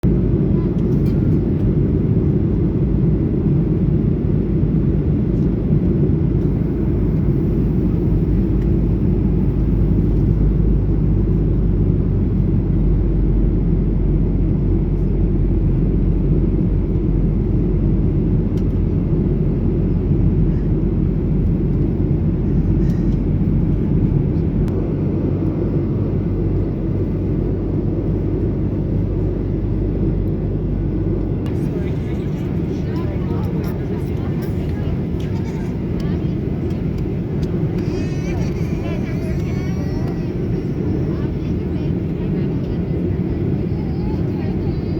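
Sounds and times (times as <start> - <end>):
jet airliner cabin drone: 0.0 - 44.9.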